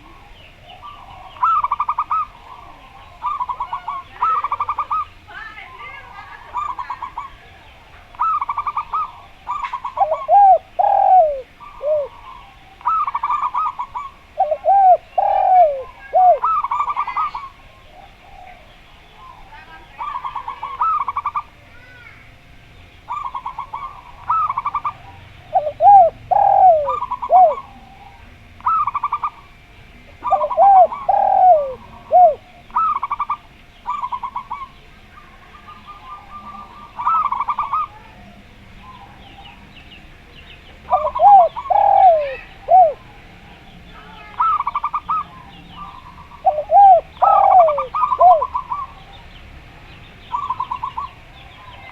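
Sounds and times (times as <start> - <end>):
dove low falling coos: 0.0 - 5.2, 6.5 - 21.6, 23.1 - 29.6, 30.2 - 39.6, 40.8 - 43.6, 44.3 - 49.2
doves trilled cooing: 0.0 - 51.9.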